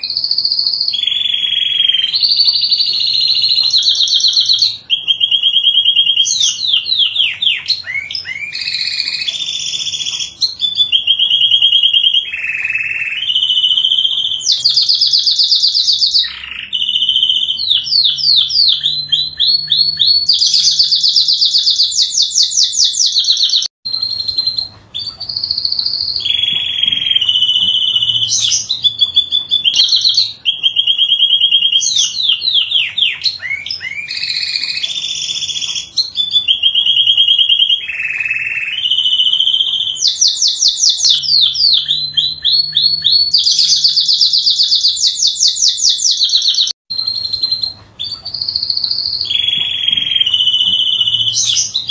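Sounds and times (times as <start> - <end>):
canary singing: 0.0 - 51.9.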